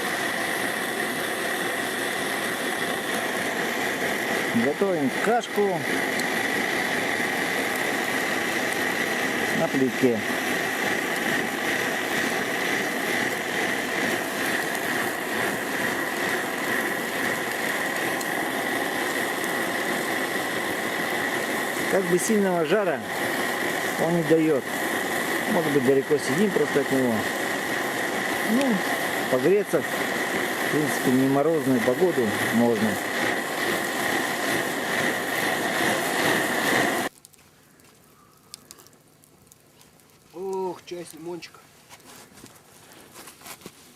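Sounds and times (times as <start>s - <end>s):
camping stove burner hissing: 0.0s - 43.9s.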